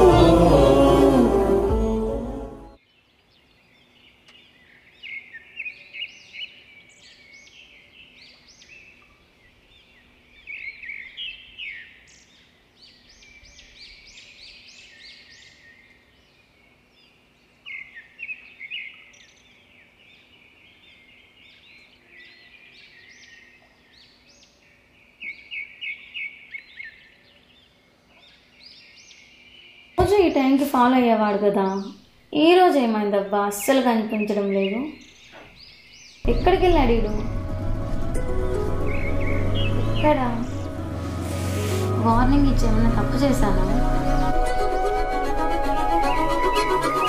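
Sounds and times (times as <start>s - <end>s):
songbirds chirping: 2.6s - 44.6s.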